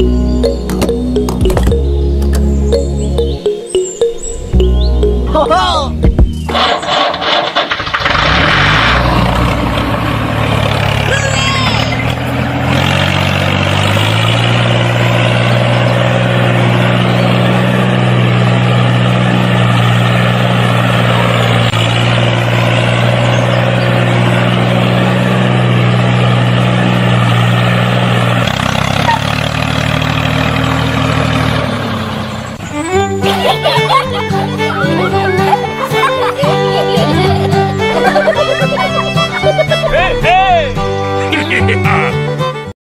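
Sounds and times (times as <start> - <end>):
vehicle engine running: 0.0 - 42.7.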